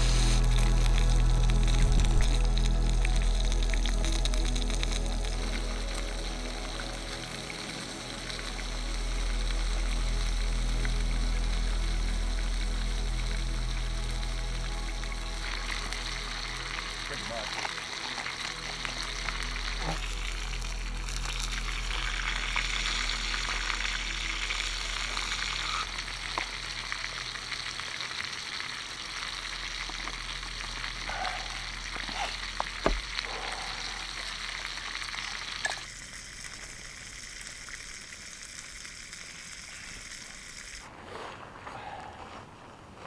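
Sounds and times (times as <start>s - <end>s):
camping stove hissing: 0.0s - 40.9s.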